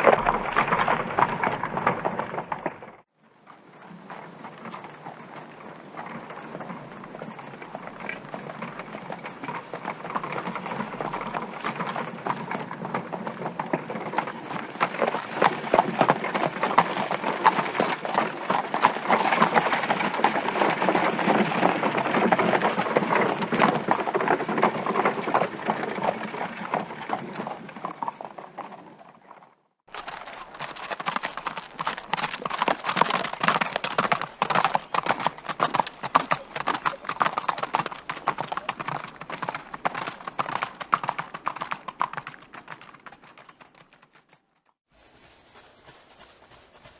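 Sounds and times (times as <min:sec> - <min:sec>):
horses galloping: 0:00.0 - 0:03.0, 0:04.0 - 0:29.0, 0:29.9 - 0:46.9.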